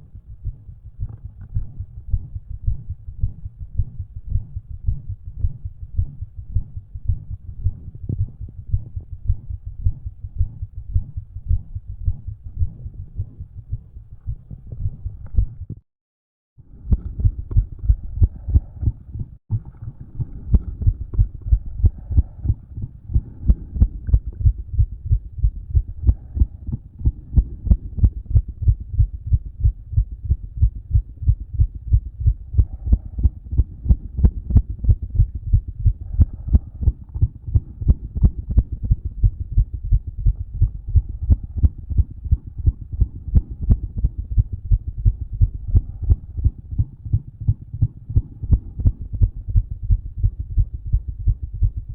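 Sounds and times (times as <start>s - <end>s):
fast heartbeat through stethoscope: 0.0s - 15.8s, 16.7s - 51.9s
heart murmur: 0.0s - 15.8s, 16.7s - 51.9s.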